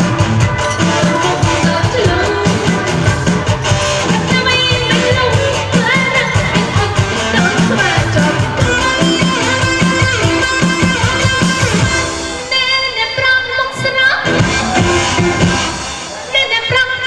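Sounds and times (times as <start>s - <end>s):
steady drum beat: 0.0s - 12.6s, 14.3s - 16.4s
guitar: 0.0s - 17.0s.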